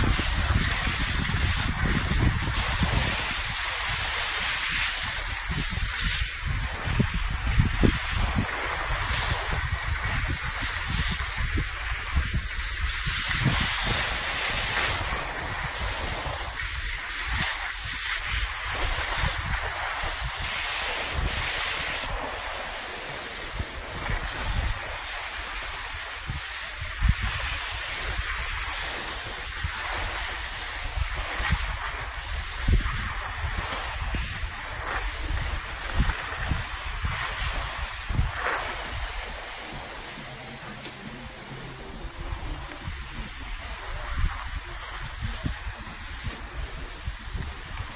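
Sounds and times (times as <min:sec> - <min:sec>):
wind buffeting microphone: 0:00.0 - 0:22.5, 0:23.4 - 0:47.9
skis sliding on snow: 0:00.0 - 0:47.9.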